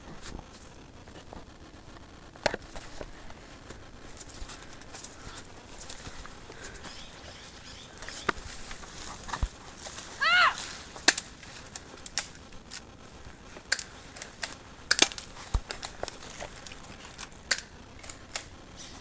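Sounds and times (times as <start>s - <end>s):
sharp snaps and crackles: 0.0s - 19.0s.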